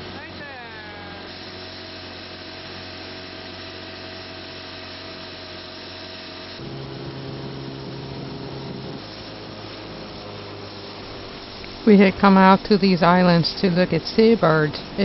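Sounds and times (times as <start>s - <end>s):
boat engine running: 0.0s - 15.0s
water noise: 0.0s - 15.0s.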